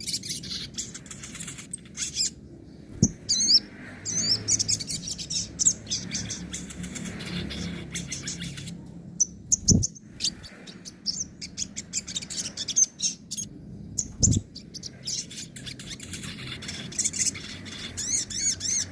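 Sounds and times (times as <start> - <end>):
bird chirping and trilling: 0.0 - 18.9.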